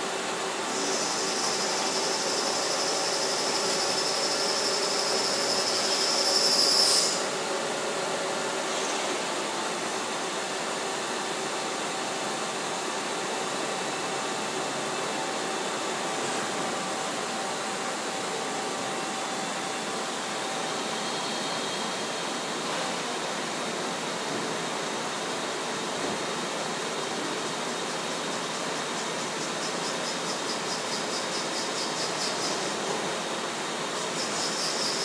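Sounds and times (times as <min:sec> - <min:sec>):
factory machines droning: 0:00.0 - 0:35.0.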